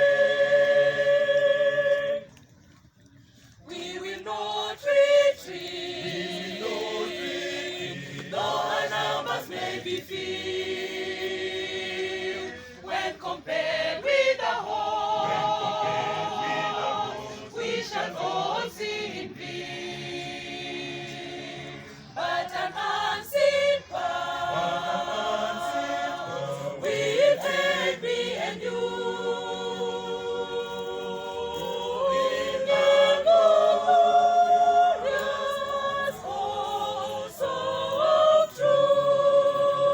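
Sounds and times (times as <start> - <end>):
choir singing a hymn: 0.0 - 2.4, 3.6 - 39.9.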